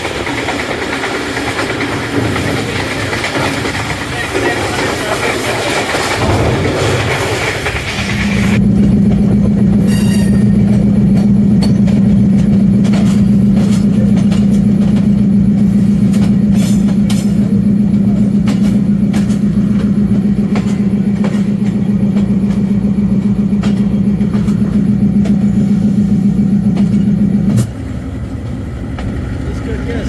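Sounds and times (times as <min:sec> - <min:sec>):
train running low drone: 0:00.0 - 0:30.0.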